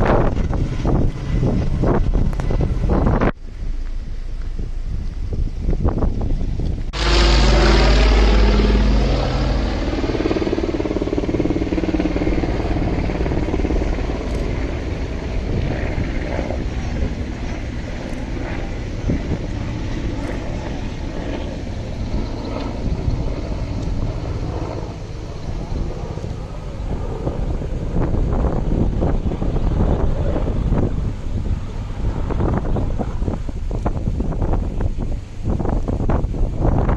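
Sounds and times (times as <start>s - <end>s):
vehicle engine noise: 0.0s - 36.9s.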